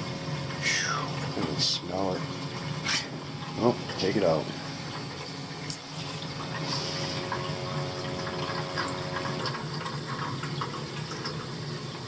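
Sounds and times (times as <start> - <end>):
gas boiler rushing: 0.0 - 12.0
steady hum: 0.0 - 12.0.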